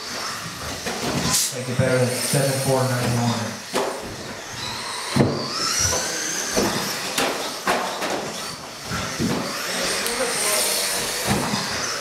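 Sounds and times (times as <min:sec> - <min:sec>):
toy car motors whining: 0:00.0 - 0:12.0.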